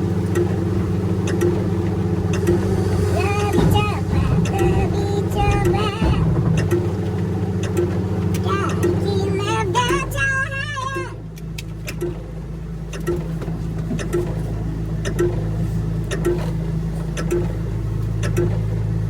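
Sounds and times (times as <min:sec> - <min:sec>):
excavator engine running: 0:00.0 - 0:19.0
soft ticking: 0:00.2 - 0:07.0, 0:07.6 - 0:12.2, 0:12.9 - 0:16.5, 0:17.2 - 0:17.6.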